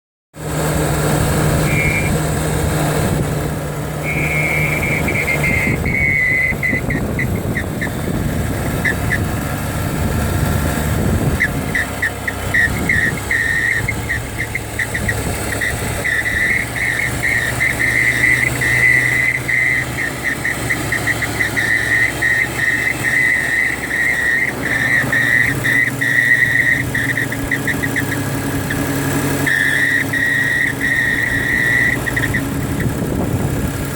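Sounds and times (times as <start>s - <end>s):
van engine running: 0.3s - 33.9s
high-pitched squeak chirps: 1.6s - 2.3s, 4.0s - 9.3s, 11.2s - 33.0s.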